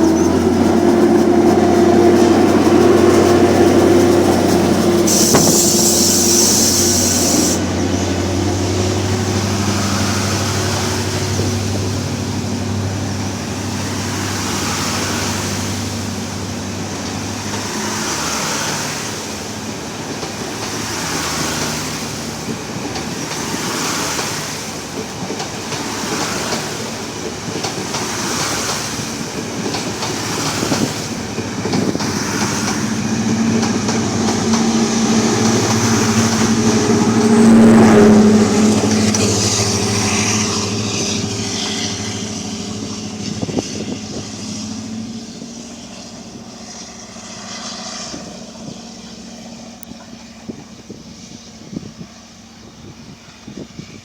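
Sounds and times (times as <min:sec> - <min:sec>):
train wheels clacking over rail joints: 0:00.0 - 0:45.1
diesel engine drone: 0:00.0 - 0:54.0.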